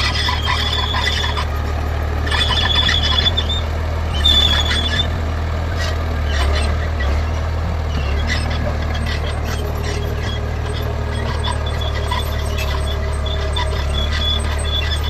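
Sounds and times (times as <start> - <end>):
high metallic squeals: 0.0 - 5.2, 5.8 - 15.0
bulldozer diesel engine running: 0.0 - 15.0.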